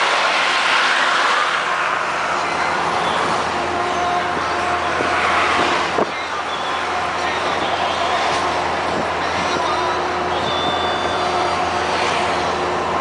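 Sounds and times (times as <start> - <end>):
truck diesel engine running: 0.0 - 13.0
wind and tyre noise: 0.0 - 13.0.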